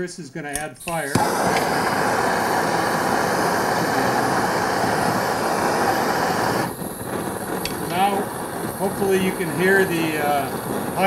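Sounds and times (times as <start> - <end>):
gas burner hissing: 0.5 - 11.0.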